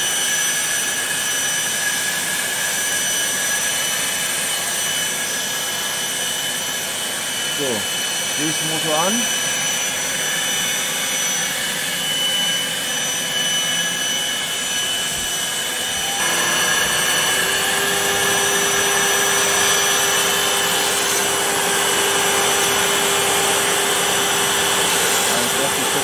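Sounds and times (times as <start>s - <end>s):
motor spinning up and humming: 0.0s - 26.0s
milling machine motors running: 0.1s - 26.0s
dust extractor running: 3.6s - 26.0s.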